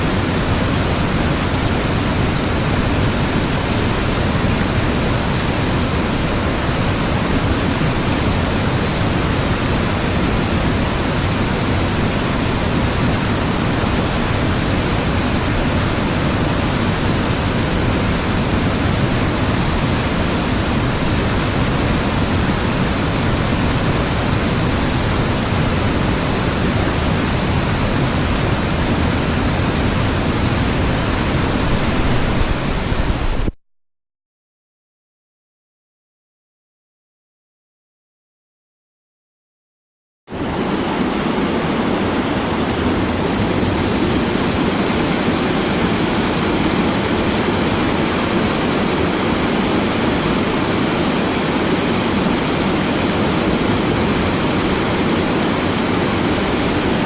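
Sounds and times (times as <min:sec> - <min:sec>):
waterfall rushing: 0:00.0 - 0:33.6, 0:40.3 - 0:57.0.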